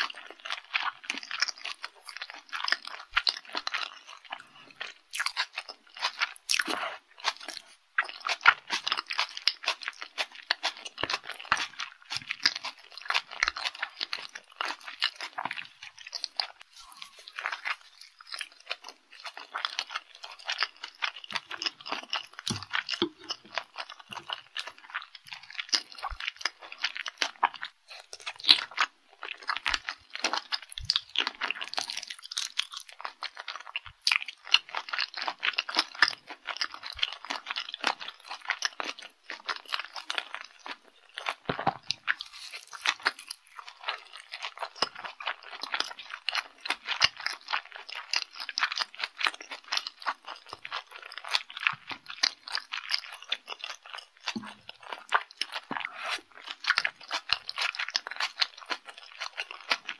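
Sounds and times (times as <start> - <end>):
chewing mouth clicks: 0.0 - 59.9.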